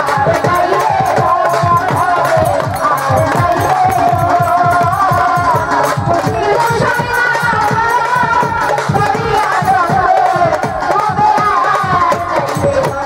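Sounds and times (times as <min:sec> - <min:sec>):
hand drum beats: 0:00.0 - 0:13.0
woman singing into microphone: 0:00.0 - 0:13.0.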